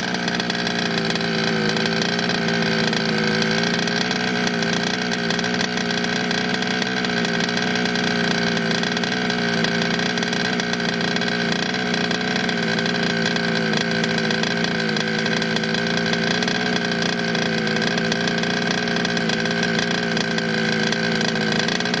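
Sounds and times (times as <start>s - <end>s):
small two-stroke engine running: 0.0s - 22.0s.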